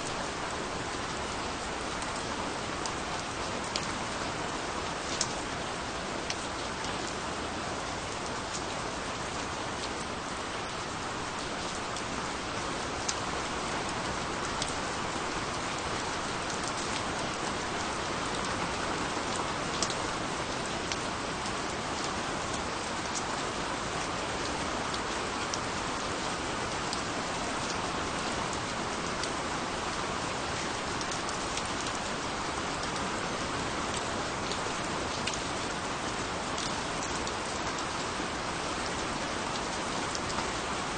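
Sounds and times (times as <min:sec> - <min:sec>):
raindrops ticking on surface: 0:00.0 - 0:07.3, 0:07.9 - 0:40.9
steady rain hiss: 0:00.0 - 0:40.9.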